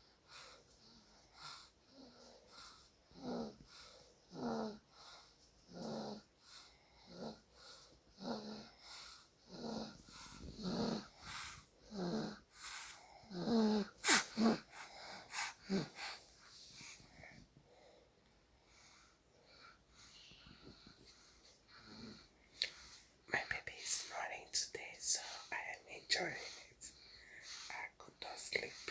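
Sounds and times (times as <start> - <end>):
soft snoring: 0.0 - 28.9.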